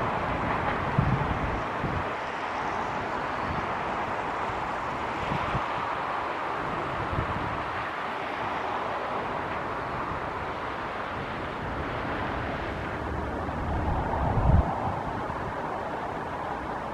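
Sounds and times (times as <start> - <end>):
train wheels rumbling on rail: 0.0 - 16.9
wind buffeting microphone: 0.0 - 16.9.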